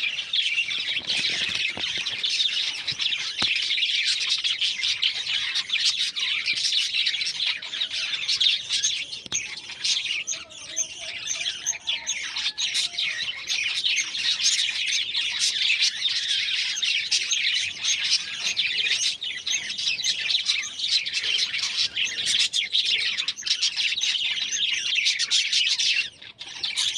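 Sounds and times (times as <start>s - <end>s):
birds chirping and chattering: 0.0s - 26.9s.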